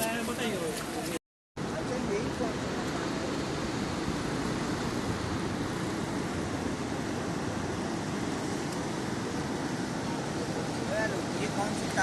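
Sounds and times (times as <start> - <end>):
flooded river roaring: 0.0 - 12.0.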